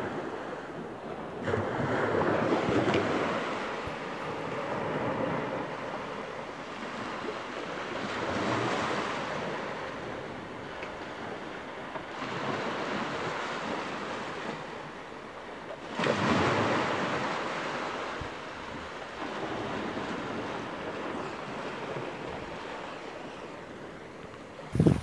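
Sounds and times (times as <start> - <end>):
wind buffeting microphone: 0.0 - 14.9, 16.0 - 25.0
small sea waves washing on beach: 0.0 - 25.0.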